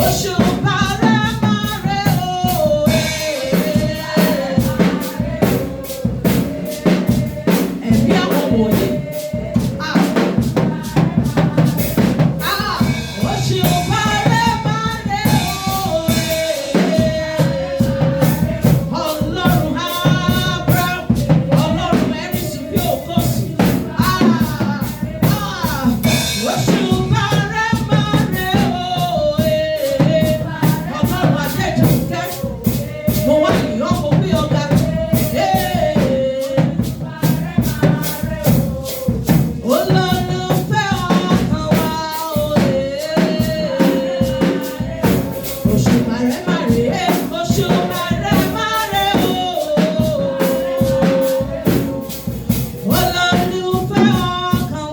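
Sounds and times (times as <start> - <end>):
drum beat: 0.0 - 54.9
shakers: 0.0 - 54.9
solo voice singing: 0.0 - 54.9.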